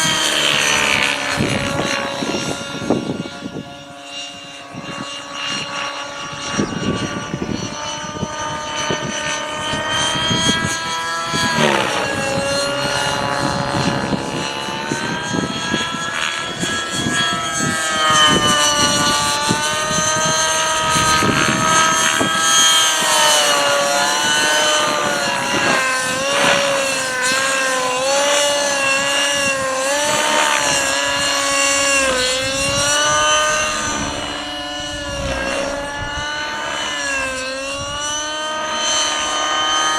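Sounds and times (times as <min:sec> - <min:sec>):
wind rumble on microphone: 0:00.0 - 0:39.8
model helicopter engine running: 0:00.0 - 0:39.9.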